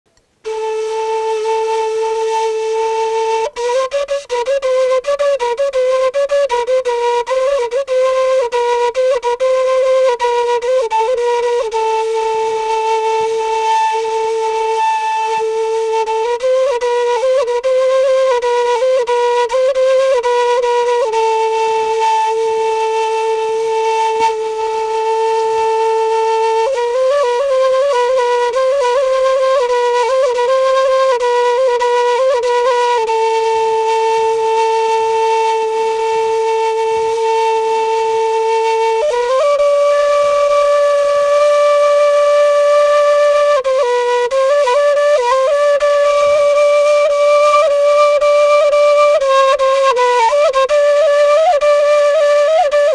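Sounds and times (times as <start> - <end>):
wooden flute melody: 0.1 - 52.9.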